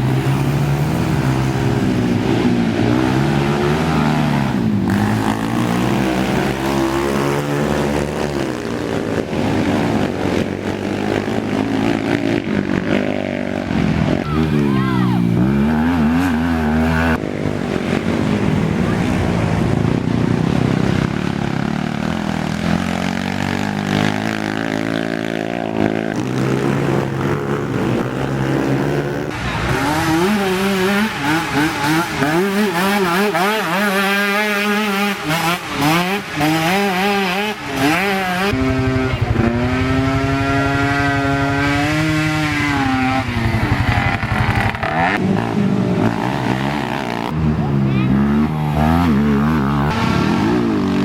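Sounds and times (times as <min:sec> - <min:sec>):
quad engines revving: 0:00.0 - 0:51.0.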